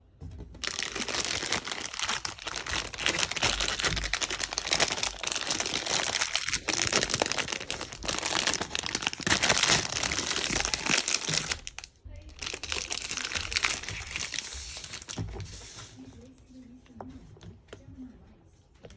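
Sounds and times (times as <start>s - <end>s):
plastic packaging crinkling: 0.6s - 15.9s.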